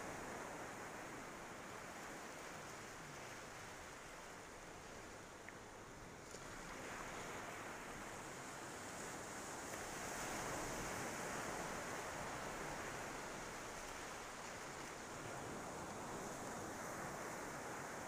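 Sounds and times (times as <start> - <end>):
waves washing onto beach: 0.0 - 18.0.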